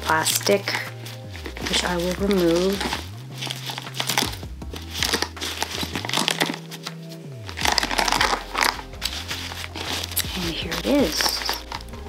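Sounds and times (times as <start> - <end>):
background music: 0.0 - 12.0
plastic film crinkling as peeled: 0.0 - 12.0.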